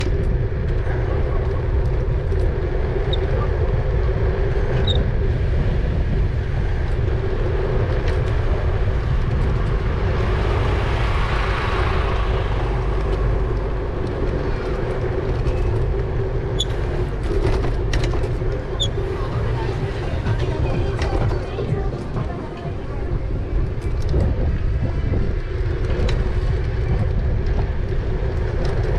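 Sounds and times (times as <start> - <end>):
steady low hum: 0.0 - 28.9
tyre noise: 0.0 - 28.9
wind rumbling on microphone: 0.0 - 28.9.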